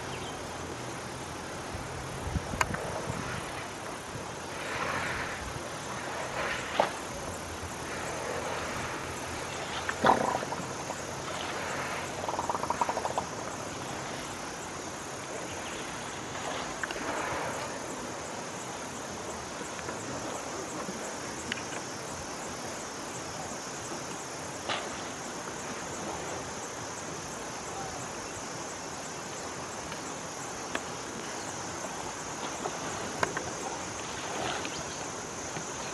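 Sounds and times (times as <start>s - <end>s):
high-pitched insect chorus: 0.0s - 35.9s.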